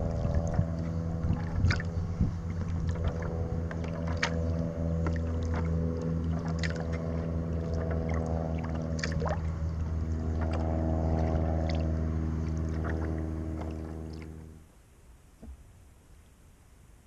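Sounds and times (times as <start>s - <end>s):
water splashes and drips: 0.0s - 14.5s
low engine hum: 0.0s - 16.4s.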